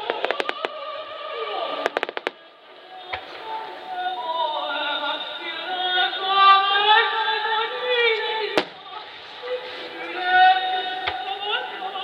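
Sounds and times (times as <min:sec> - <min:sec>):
music with singing over loudspeakers: 0:00.0 - 0:12.0.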